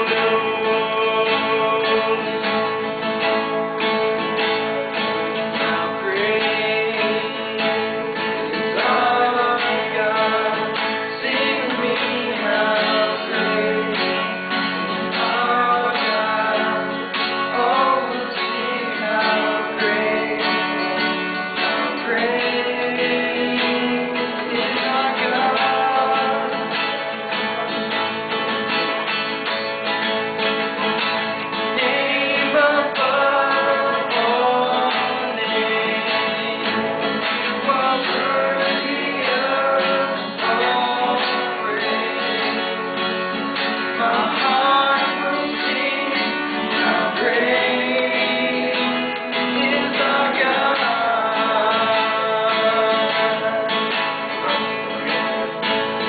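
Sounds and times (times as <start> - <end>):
men singing: 0.0 - 27.7, 31.3 - 55.9
strummed acoustic guitar: 0.0 - 56.0.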